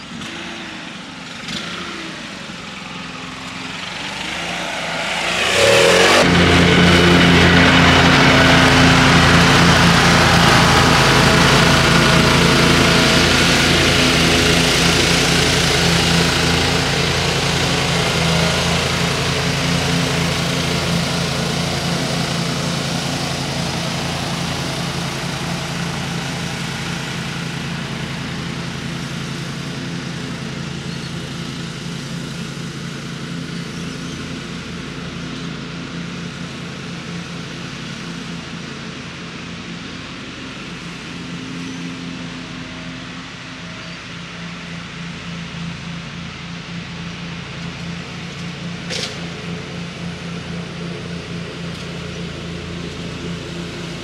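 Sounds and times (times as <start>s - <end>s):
ride-on mower engine running: 0.0s - 54.0s.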